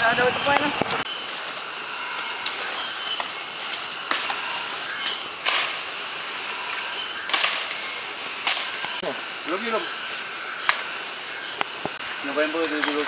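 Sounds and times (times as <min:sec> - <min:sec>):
steady high hiss: 0:00.0 - 0:13.0
brushing through undergrowth: 0:00.6 - 0:13.0
footsteps crunching on dry leaves: 0:01.1 - 0:13.0.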